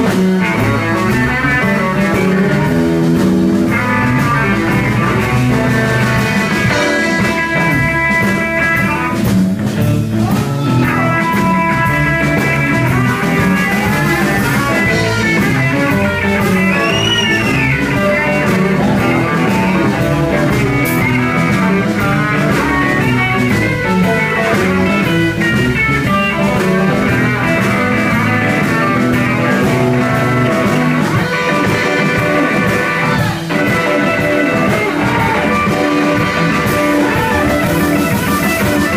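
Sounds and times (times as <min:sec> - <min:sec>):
bass guitar: 0:00.0 - 0:38.9
drum kit: 0:00.0 - 0:38.9
electric guitar lead: 0:00.0 - 0:38.9.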